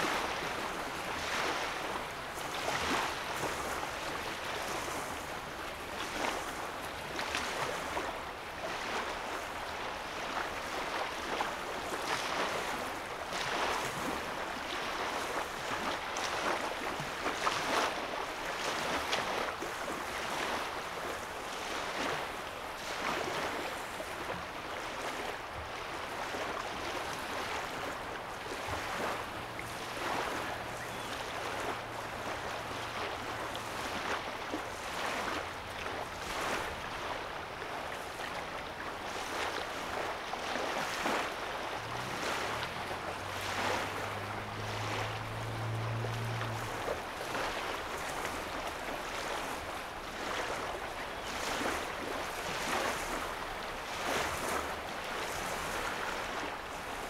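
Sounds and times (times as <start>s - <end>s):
waves lapping on sandy shore: 0.0s - 57.0s.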